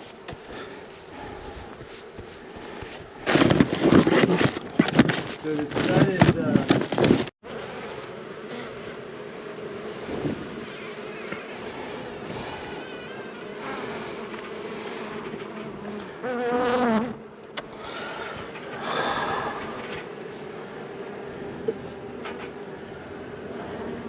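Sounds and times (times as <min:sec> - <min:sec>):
bee colony buzzing: 0:00.0 - 0:24.0
close bee buzzing: 0:00.0 - 0:24.0.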